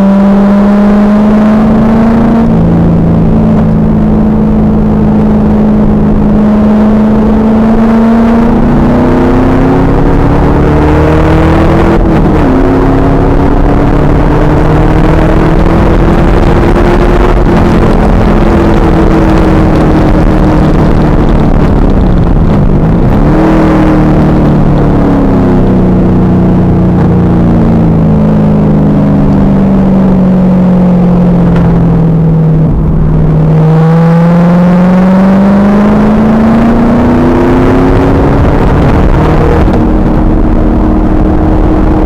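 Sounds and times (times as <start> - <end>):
car engine revving hard: 0.0 - 42.0.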